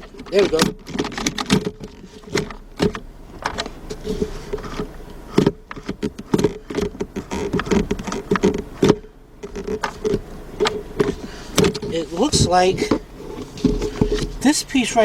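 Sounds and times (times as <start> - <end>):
gear shifter clicking and rattling: 0.0 - 15.0.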